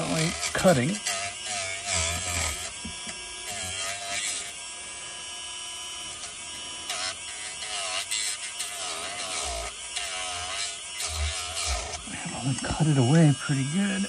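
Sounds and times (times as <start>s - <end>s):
rotary tool whining cutting hose: 0.0s - 14.0s.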